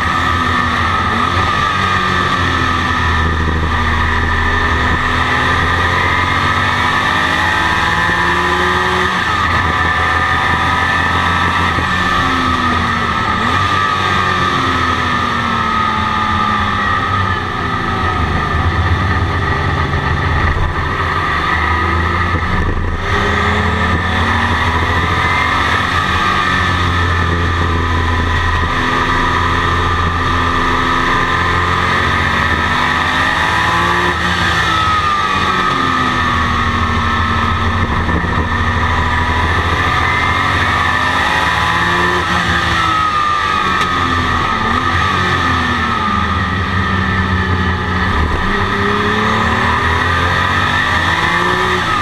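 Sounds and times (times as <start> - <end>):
cabin drone: 0.0 - 15.0, 16.2 - 52.0
race car engine accelerating: 0.0 - 52.0.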